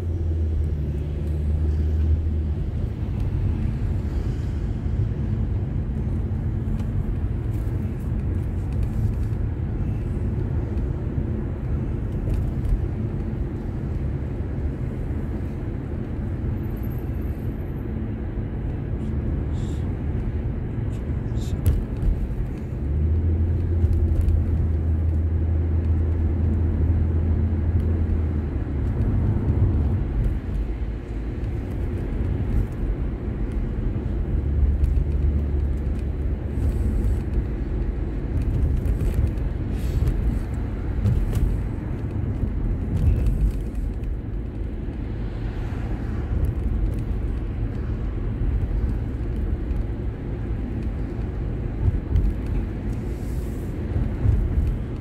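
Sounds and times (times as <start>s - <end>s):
car engine and road rumble: 0.0s - 55.0s
deeper engine drone: 0.0s - 55.0s.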